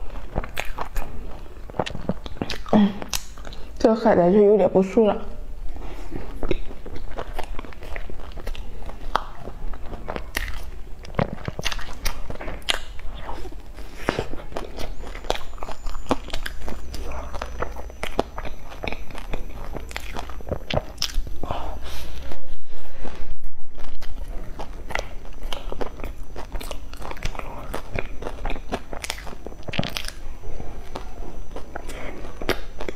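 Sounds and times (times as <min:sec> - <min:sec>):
biting and chewing: 0:00.0 - 0:03.8, 0:05.6 - 0:22.4, 0:23.6 - 0:32.9
faint low hum: 0:00.0 - 0:32.9.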